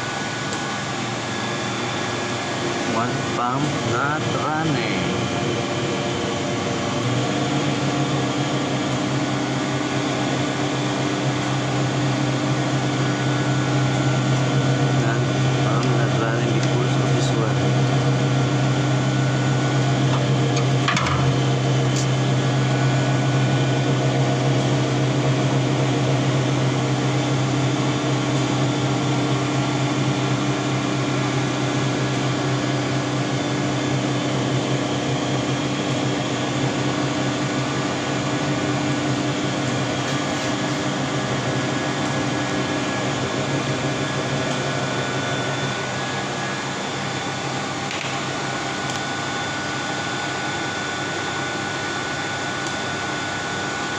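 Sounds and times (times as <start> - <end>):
machine hum: 0.0 - 53.9.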